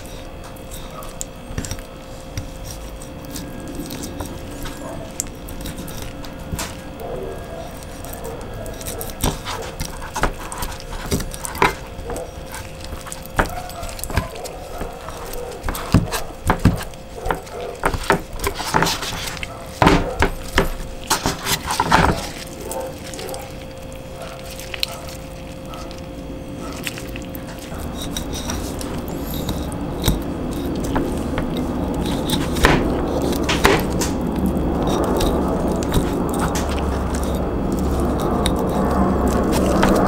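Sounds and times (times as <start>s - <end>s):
faint steady hum: 0.0s - 40.0s
wet squishes of raw meat: 0.0s - 40.0s.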